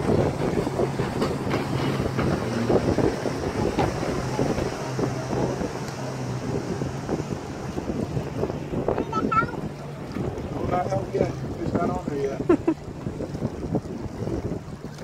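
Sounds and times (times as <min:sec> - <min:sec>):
distant motorboat engine hum: 0:00.0 - 0:15.0
wind buffeting microphone: 0:00.0 - 0:15.0.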